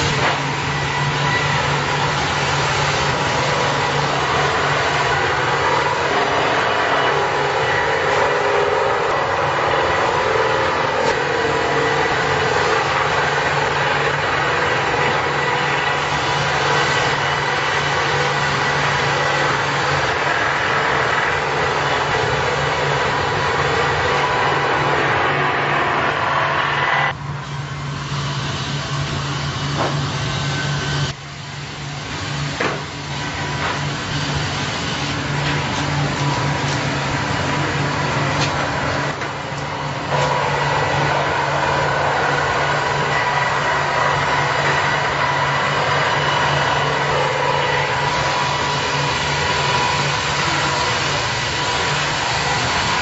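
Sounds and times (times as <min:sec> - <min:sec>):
sawmill machine drone: 0:00.0 - 0:53.0.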